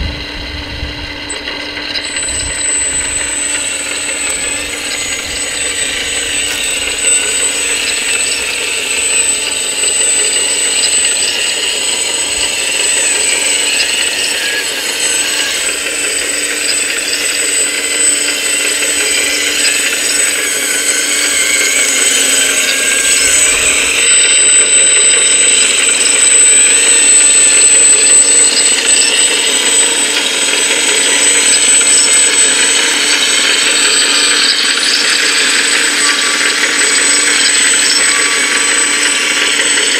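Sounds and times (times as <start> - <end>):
hydraulic pump whining: 0.0 - 39.9.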